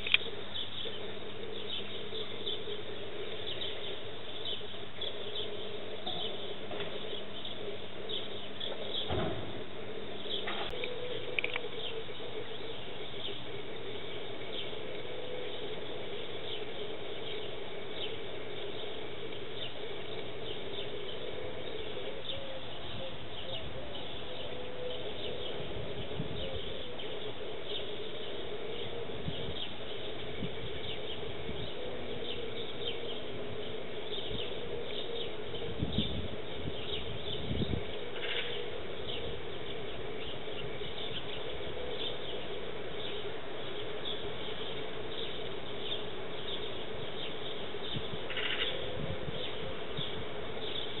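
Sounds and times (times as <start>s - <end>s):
sparrows chirping: 0.0s - 51.0s
steady low hum: 0.0s - 51.0s.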